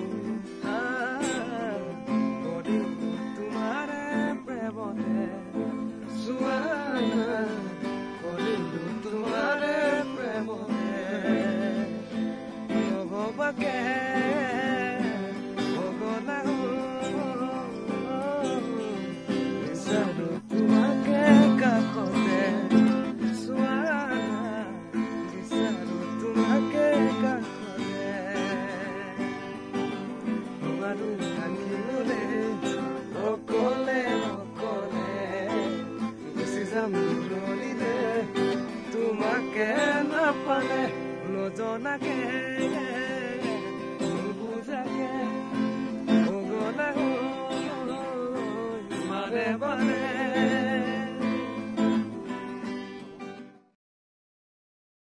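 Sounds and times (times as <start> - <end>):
man singing: 0.0 - 52.8
acoustic guitar strummed: 0.0 - 53.8.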